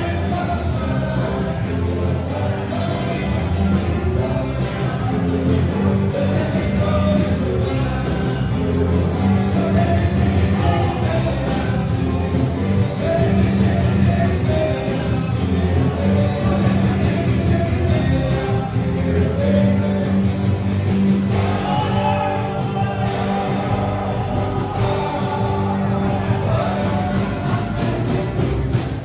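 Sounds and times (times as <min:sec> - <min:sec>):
person singing: 0:00.0 - 0:28.5
drumbeat: 0:00.0 - 0:29.0
rock band playing live: 0:00.0 - 0:29.0.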